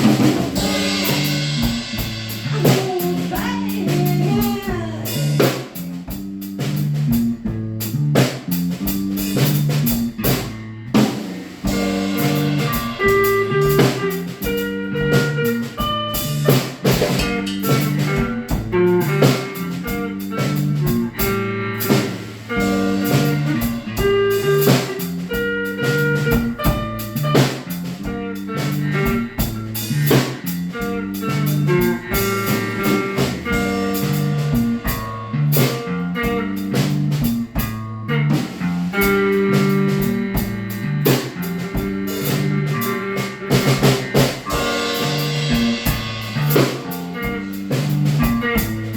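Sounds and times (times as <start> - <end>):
bass line: 0.0 - 48.9
drum kit beat: 0.0 - 48.9
guitar: 0.0 - 48.9.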